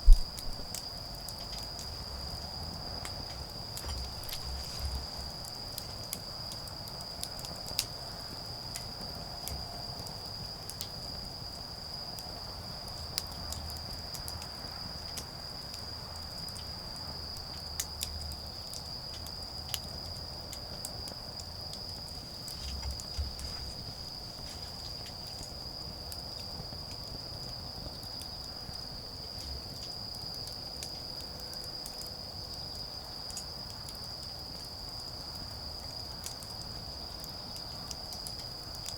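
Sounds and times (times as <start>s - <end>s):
insects trilling: 0.0s - 38.9s
wood fire crackling: 0.0s - 38.9s.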